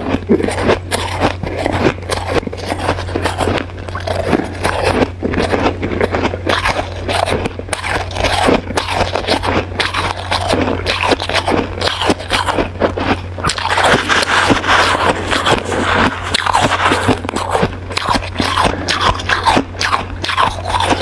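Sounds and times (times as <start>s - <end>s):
ice being chewed: 0.0s - 21.0s
low hum: 0.0s - 21.0s.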